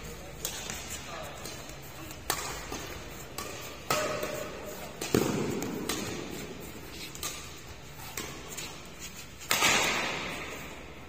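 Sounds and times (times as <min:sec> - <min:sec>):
rackets striking shuttlecock: 0:00.3 - 0:10.8.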